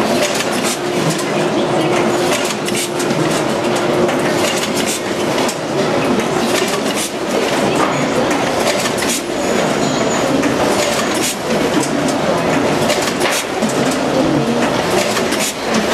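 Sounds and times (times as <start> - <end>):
machine clattering: 0.0 - 15.9
steady hum: 0.0 - 15.9.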